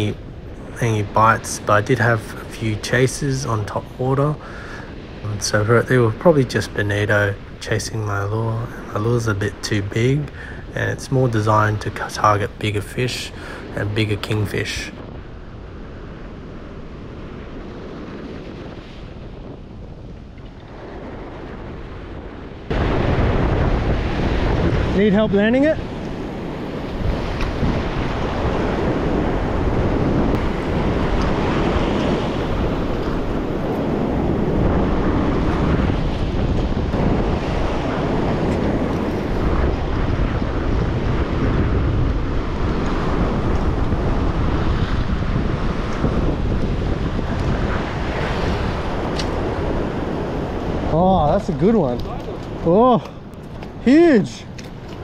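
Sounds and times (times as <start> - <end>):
ocean surf washing over rocks: 0.0 - 55.0
wind buffeting microphone: 0.0 - 55.0.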